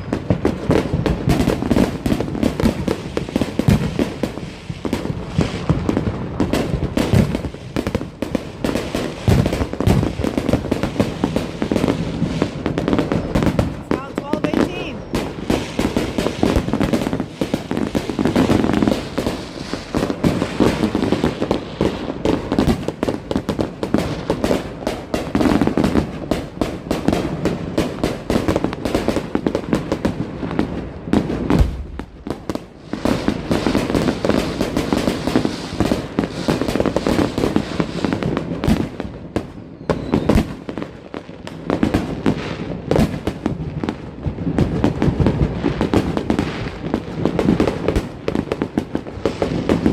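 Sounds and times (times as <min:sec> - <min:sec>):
fireworks and firecrackers: 0:00.0 - 0:49.9.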